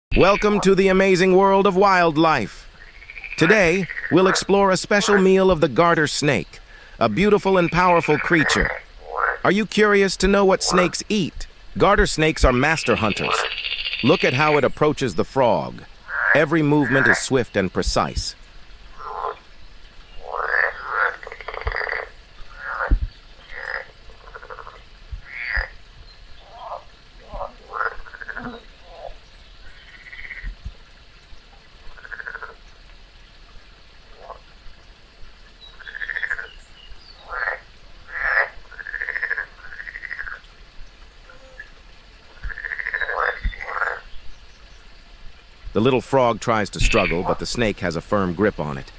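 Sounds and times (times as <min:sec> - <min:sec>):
frog croaking: 0:00.1 - 0:25.8, 0:26.4 - 0:30.6, 0:31.8 - 0:32.6, 0:34.1 - 0:34.5, 0:35.6 - 0:40.5, 0:41.2 - 0:44.2, 0:45.8 - 0:48.9.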